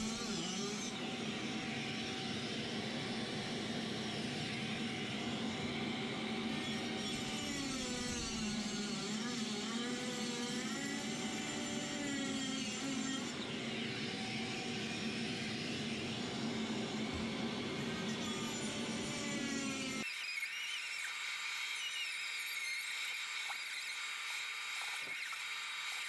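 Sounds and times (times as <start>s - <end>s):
grinder cutting tile: 0.0s - 26.0s.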